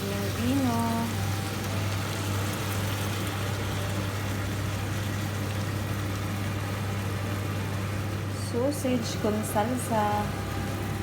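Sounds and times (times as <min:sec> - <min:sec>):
sausages sizzling in a frying pan: 0:00.0 - 0:10.9.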